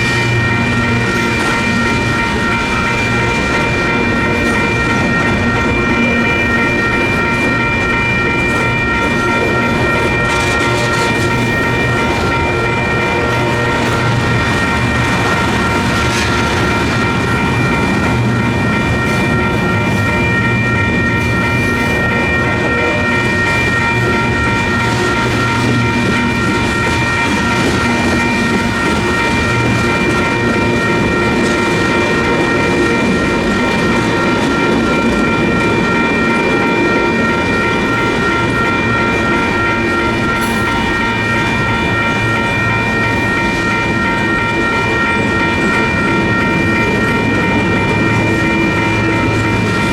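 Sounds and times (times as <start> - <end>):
clacking train wheels: 0.0 - 49.9
crossing bells ringing: 0.0 - 49.9
freight train cars rumbling: 0.0 - 49.9.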